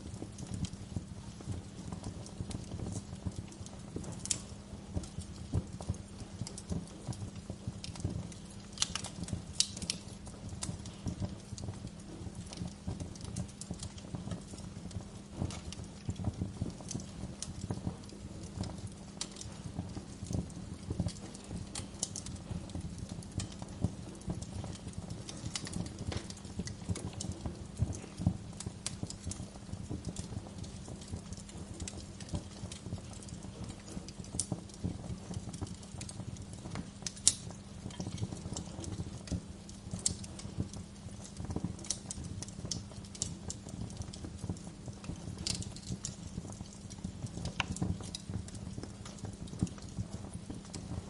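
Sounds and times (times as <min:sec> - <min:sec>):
fire pops and snaps: 0:00.0 - 0:51.0
wood fire crackling: 0:00.0 - 0:51.0.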